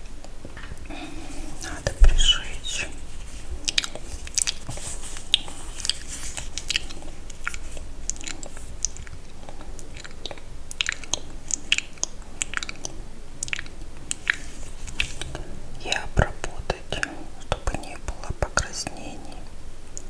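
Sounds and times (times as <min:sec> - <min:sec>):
wet mouth clicks and smacks: 0:01.6 - 0:20.0.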